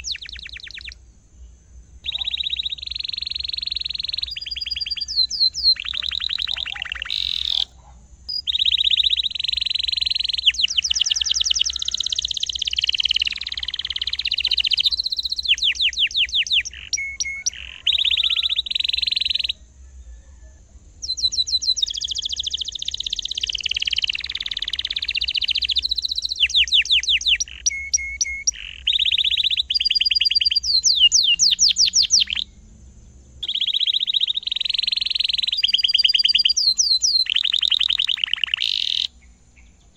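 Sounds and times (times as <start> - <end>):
canary singing trills: 0.0 - 1.0, 2.0 - 39.9.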